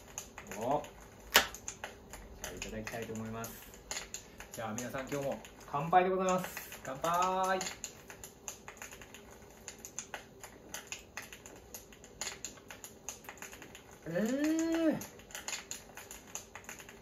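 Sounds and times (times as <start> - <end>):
light crackling clicks: 0.0 - 17.0.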